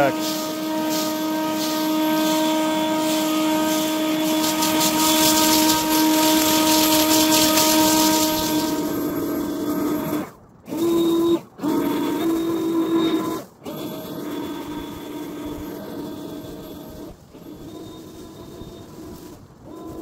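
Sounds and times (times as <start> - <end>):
leaf blower whining: 0.0 - 20.0.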